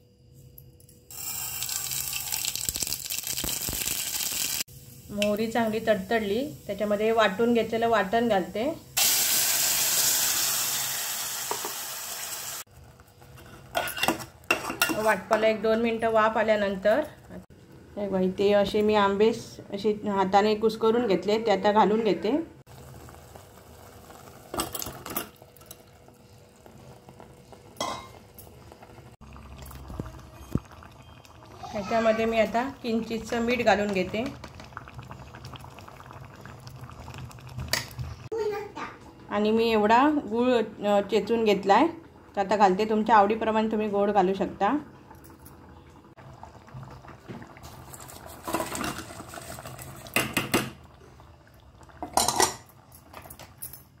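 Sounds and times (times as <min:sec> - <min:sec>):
low steady sizzle: 0:00.0 - 0:54.0.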